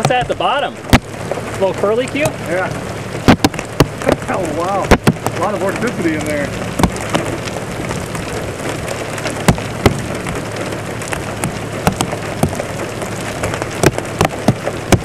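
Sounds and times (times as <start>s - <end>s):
rain falling: 0.0s - 15.0s
raindrops ticking on microphone: 0.0s - 15.0s.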